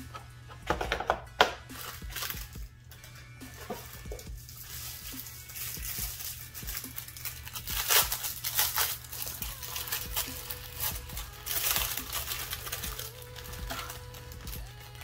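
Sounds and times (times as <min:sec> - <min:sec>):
packaging crinkling: 0:01.6 - 0:15.0.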